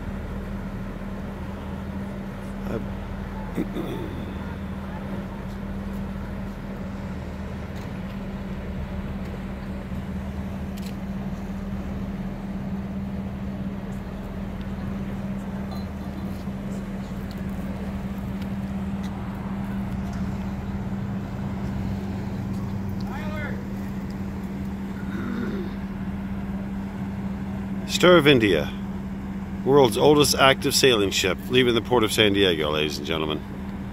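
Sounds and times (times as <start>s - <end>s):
boat engine humming: 0.0s - 33.9s.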